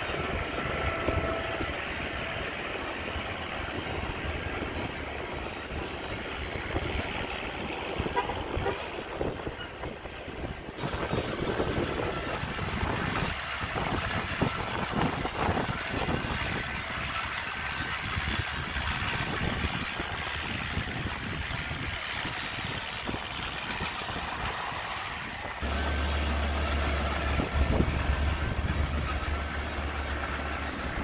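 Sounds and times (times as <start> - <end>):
bulldozer diesel engine clattering: 0.0 - 31.0.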